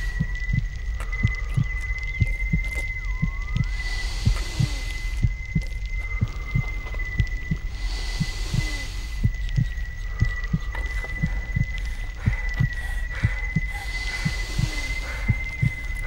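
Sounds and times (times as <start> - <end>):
heartbeat thumps: 0.0 - 16.0
soft hiss: 0.0 - 16.0.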